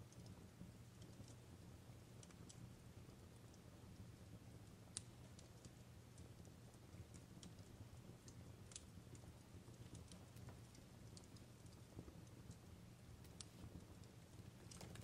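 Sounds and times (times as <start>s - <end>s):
fireplace crackling pops: 0.0s - 15.0s.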